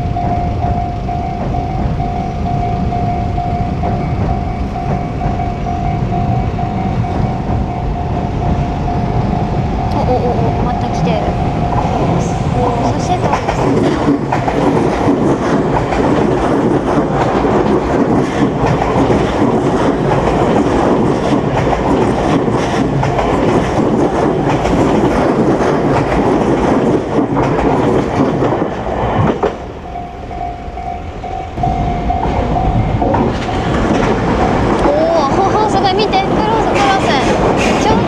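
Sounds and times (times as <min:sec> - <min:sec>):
crossing warning bell ringing: 0:00.0 - 0:38.0
train wheels clacking: 0:00.0 - 0:38.0.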